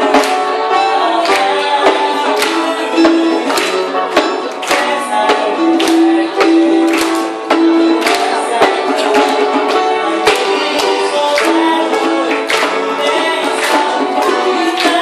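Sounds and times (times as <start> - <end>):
strummed ukulele: 0.0 - 15.0.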